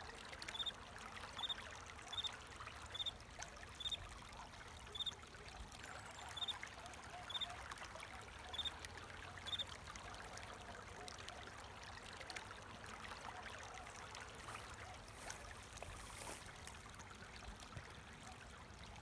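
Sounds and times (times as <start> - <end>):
stream flowing and trickling: 0.0 - 19.0.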